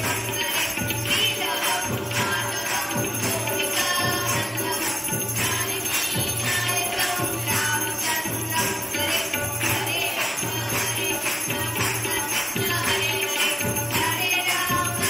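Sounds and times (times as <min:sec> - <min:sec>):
group singing: 0:00.0 - 0:15.0
jingling bells and tambourine: 0:00.0 - 0:15.0.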